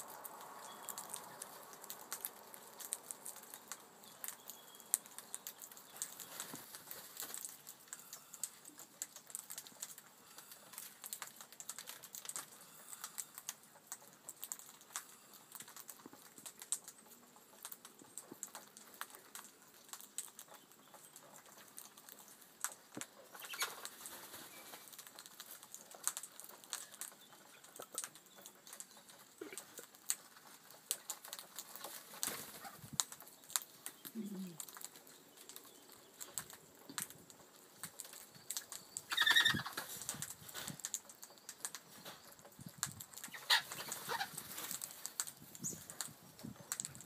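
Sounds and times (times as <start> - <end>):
parrots pecking and cracking seed: 0.0 - 47.0.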